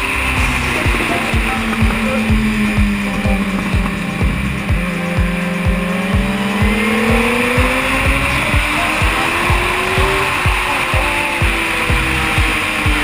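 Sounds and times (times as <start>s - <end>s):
motorcycle engine accelerating: 0.0s - 13.0s
music with steady beat: 0.0s - 13.0s.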